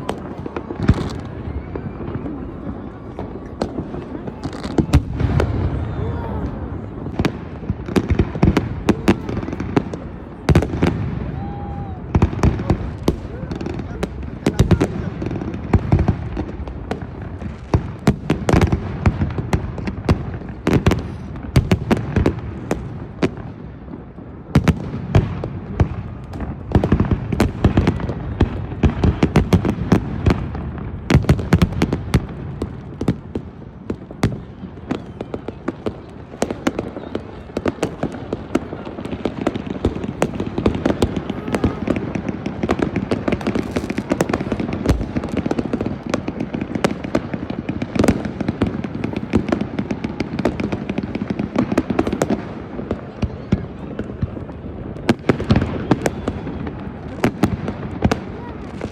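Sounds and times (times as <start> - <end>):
distant fireworks rumble: 0.0 - 58.9
fireworks bangs and crackles: 0.0 - 58.9.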